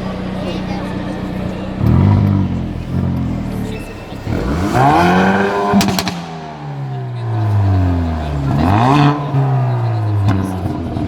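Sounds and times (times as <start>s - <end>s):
car engine revving: 0.0s - 11.0s
exhaust crackles: 0.0s - 11.0s.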